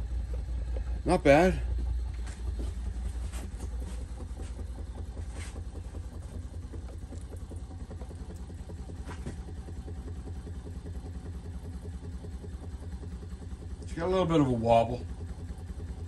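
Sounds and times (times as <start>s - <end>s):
small engine pistons clattering: 0.0s - 16.0s.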